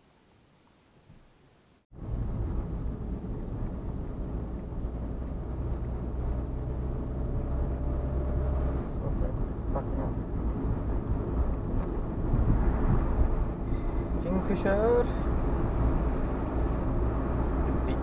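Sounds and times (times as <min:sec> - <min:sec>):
car driving rumble: 0:01.9 - 0:18.0.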